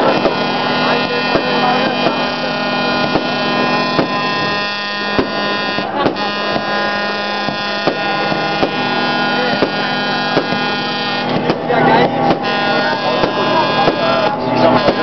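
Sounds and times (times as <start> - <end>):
fireworks pops and bangs: 0.0 - 15.0
steady droning hum: 0.0 - 15.0.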